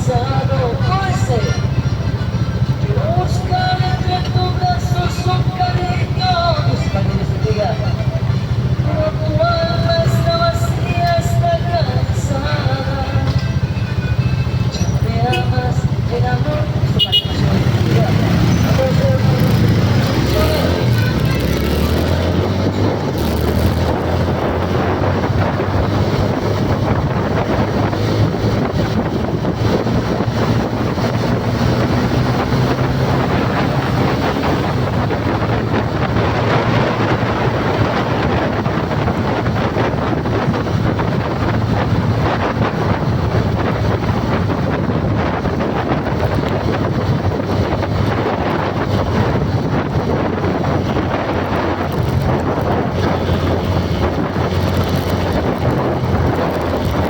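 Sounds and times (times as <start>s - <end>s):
vehicle rumble: 0.0s - 57.0s
wind buffeting microphone: 0.0s - 57.0s.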